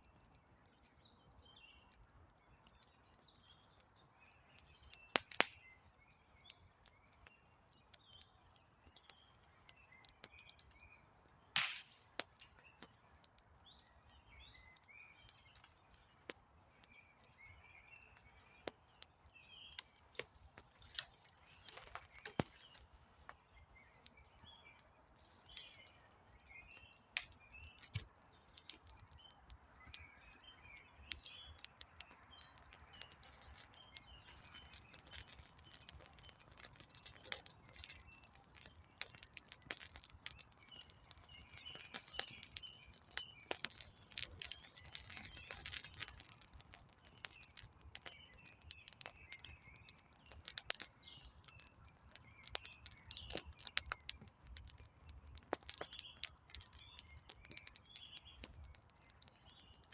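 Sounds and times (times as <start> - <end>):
campfire crackling and popping: 0.0 - 59.9
small birds chirping: 0.0 - 59.9.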